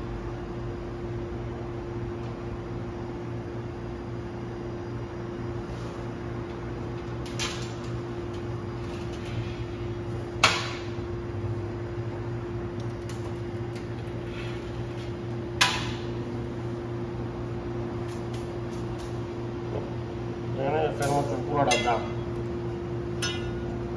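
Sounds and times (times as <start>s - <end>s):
electrical hum: 0.0s - 23.9s.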